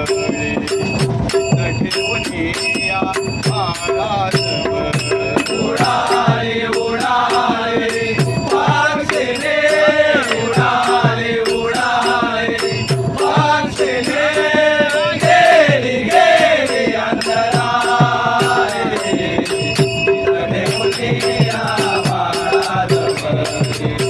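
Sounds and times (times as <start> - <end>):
held tone: 0.0 - 24.0
people singing devotional song: 0.0 - 24.0
rattling percussion beat: 0.0 - 24.0.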